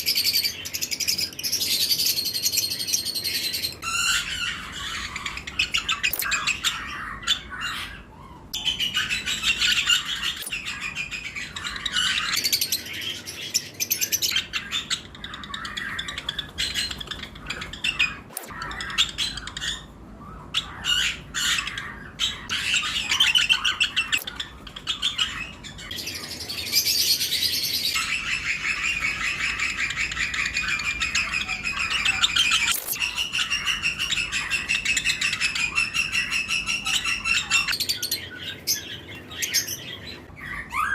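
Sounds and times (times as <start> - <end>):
lovebirds chirping and squawking: 0.0 - 40.9.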